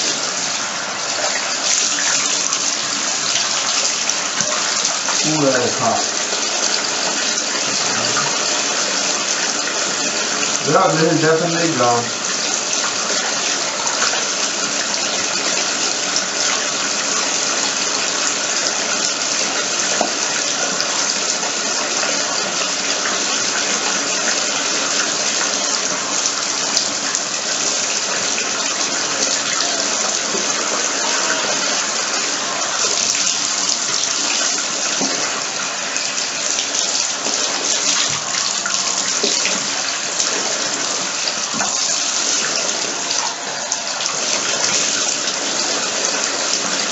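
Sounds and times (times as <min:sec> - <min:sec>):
faucet water splashing on shoe: 0:00.0 - 0:46.9.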